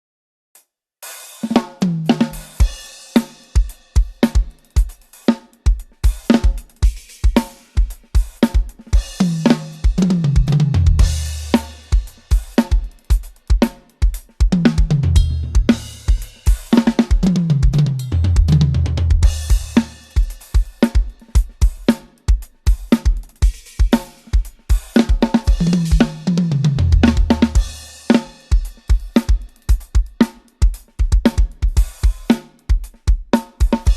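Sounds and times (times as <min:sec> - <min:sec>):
drum kit groove: 0:01.0 - 0:33.9.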